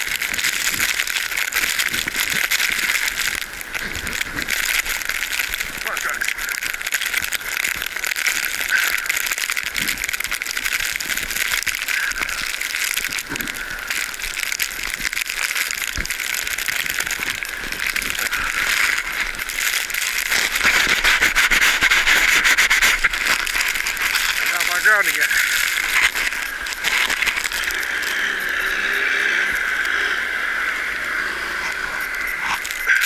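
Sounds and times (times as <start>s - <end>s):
crackling rustling on microphone: 0.0s - 33.0s.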